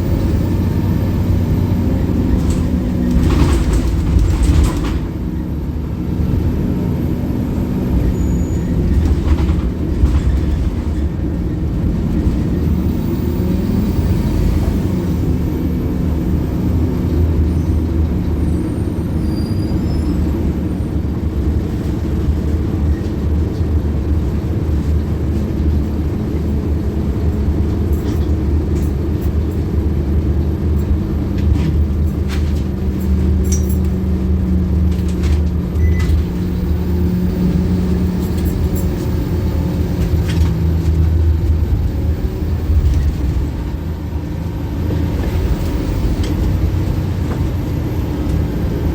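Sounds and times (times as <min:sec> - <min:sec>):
bus diesel engine rumble: 0:00.0 - 0:48.9
road noise: 0:00.0 - 0:48.9.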